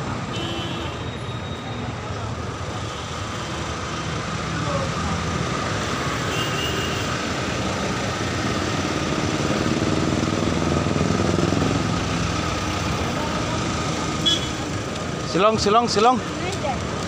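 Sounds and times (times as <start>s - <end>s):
street traffic noise: 0.0s - 17.0s
suv engine humming: 2.2s - 17.0s.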